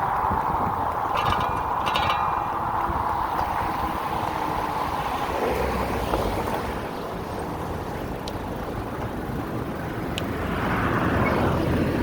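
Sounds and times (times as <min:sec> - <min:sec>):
road rumble: 0:00.0 - 0:12.0
wind rush: 0:00.0 - 0:12.0.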